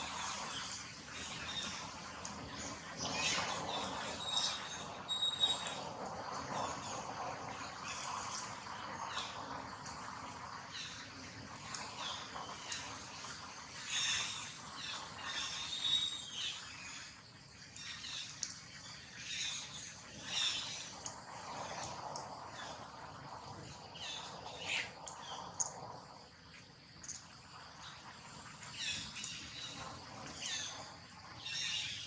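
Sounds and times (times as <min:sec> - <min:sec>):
thin insect drone: 0:00.0 - 0:32.0.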